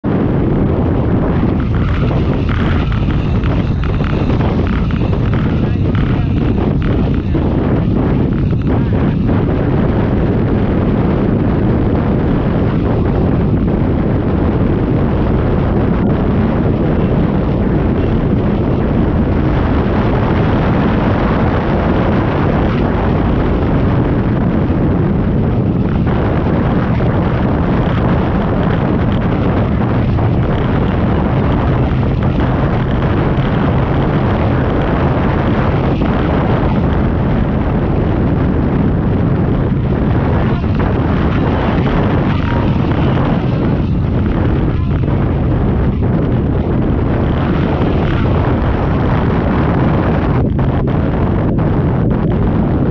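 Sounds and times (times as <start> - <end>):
wind buffeting microphone: 0.0 - 52.9
powerboat engines droning: 0.1 - 52.9.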